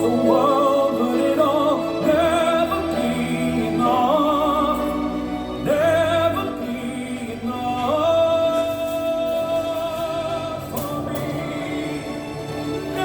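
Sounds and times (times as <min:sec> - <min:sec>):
orchestral accompaniment: 0:00.0 - 0:13.0
person singing ballad: 0:00.0 - 0:13.0.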